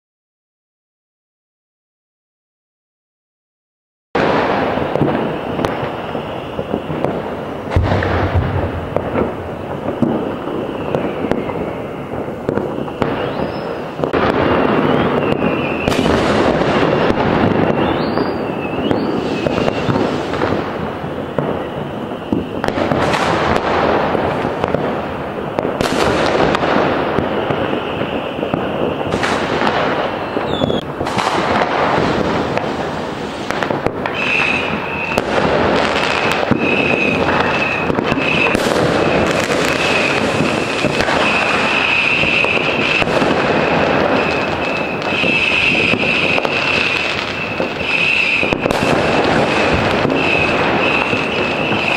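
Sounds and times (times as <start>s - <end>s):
firework whistles: 4.2s - 51.9s
fireworks crackling and rumbling: 4.2s - 51.9s
loud firework reports: 4.2s - 51.9s.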